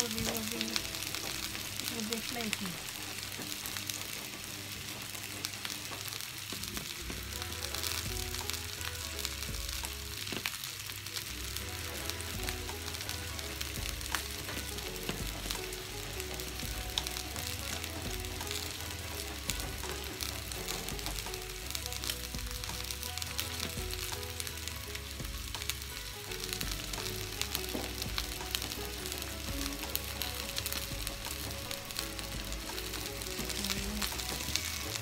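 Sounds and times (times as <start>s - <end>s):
fish sizzling in oil: 0.0s - 35.0s
small crackles of oil: 0.0s - 35.0s
soft background music: 0.0s - 35.0s.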